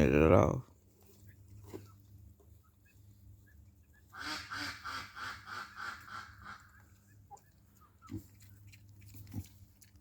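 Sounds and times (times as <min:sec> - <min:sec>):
farm bird squawking: 0:00.0 - 0:09.4.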